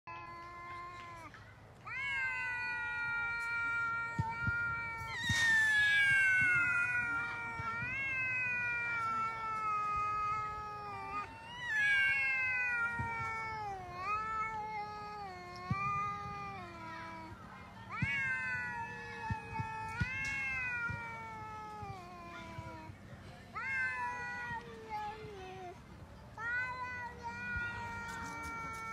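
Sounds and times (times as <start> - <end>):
cats yowling: 0.1 - 22.9, 23.5 - 25.8, 26.4 - 28.9.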